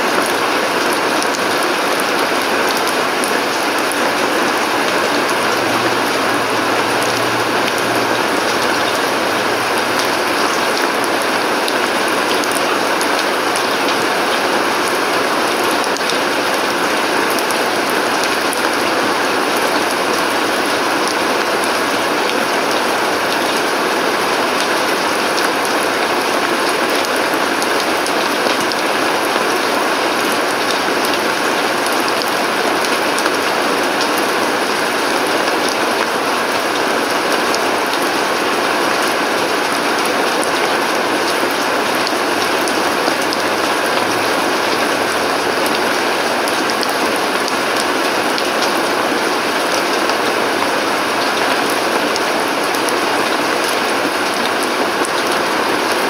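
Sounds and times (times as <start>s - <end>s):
rain on concrete: 0.0s - 56.0s.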